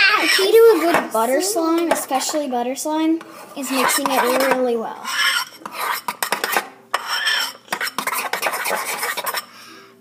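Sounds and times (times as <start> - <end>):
utensil stirring slime in bowl: 0.0 - 2.4, 3.2 - 9.5.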